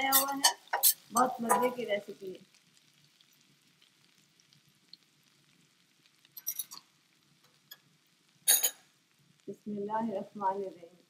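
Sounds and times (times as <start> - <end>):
frying sizzle with pops: 0.0 - 11.0.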